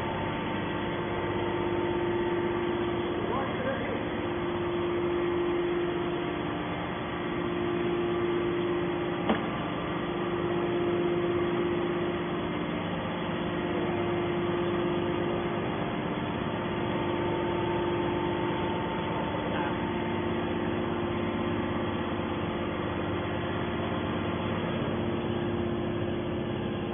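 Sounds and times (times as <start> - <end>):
hydraulic machine humming: 0.0 - 26.9.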